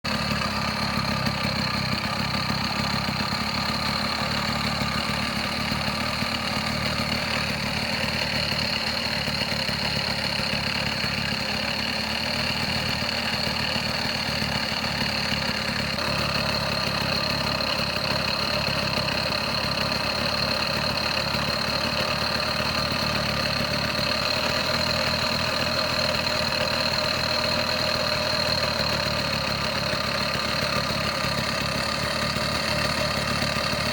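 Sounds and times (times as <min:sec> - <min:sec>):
small two-stroke engine idling: 0:00.0 - 0:33.9.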